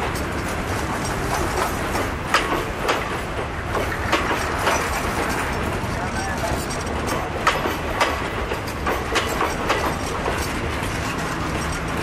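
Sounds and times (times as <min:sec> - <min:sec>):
train wheel rumble: 0:00.0 - 0:12.0
wheels clacking over rail joints: 0:00.0 - 0:12.0.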